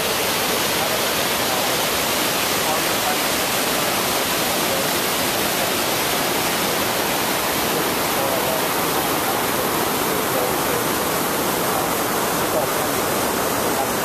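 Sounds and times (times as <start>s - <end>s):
rushing stream and waterfalls: 0.0s - 14.0s.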